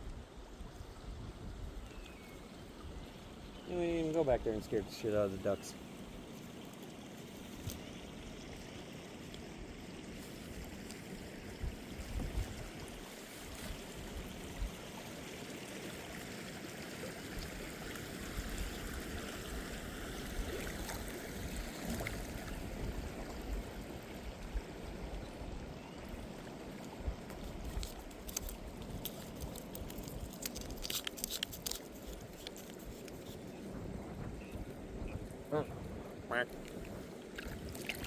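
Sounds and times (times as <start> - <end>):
water rushing and trickling: 0.2 - 38.0.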